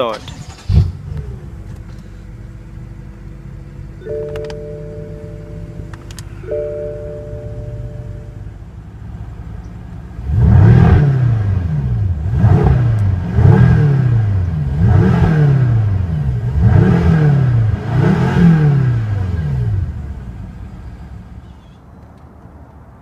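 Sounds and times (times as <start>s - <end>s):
car engine revving: 0.1s - 21.4s.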